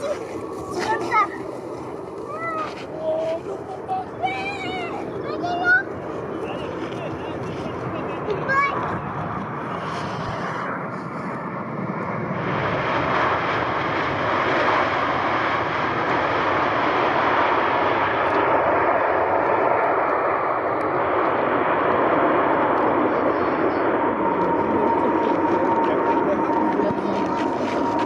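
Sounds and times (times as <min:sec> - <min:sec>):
airliner engines rushing: 0:00.0 - 0:28.0.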